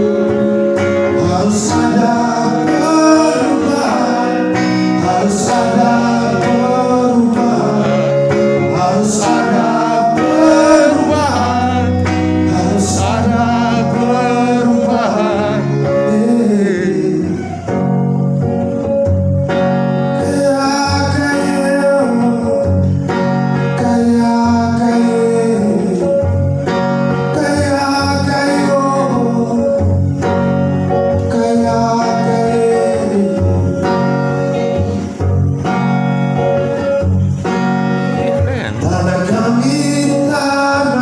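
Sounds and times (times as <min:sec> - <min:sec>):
person singing: 0:00.0 - 0:18.2, 0:20.2 - 0:26.5, 0:27.2 - 0:30.1, 0:31.1 - 0:35.2, 0:38.1 - 0:41.0
plucked and strummed guitar: 0:00.0 - 0:41.0.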